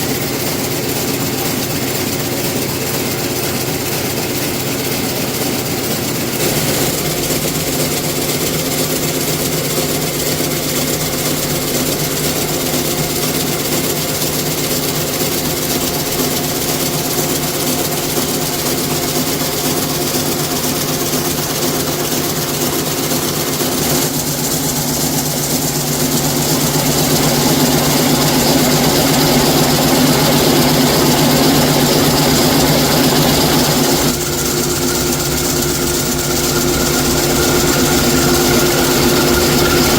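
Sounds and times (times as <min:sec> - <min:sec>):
factory machinery humming: 0:00.0 - 0:39.9.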